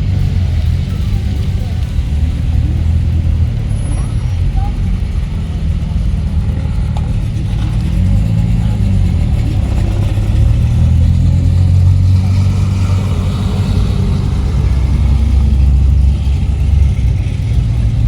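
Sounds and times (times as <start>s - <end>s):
car engines running: 0.0s - 18.0s.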